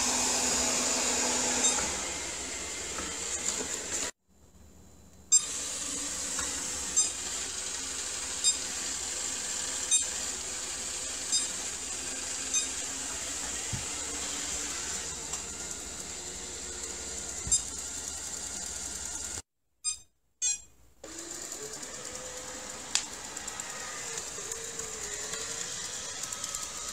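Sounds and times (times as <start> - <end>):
floor cleaner motor whine: 0.0 - 4.2, 5.4 - 19.4, 21.0 - 26.9.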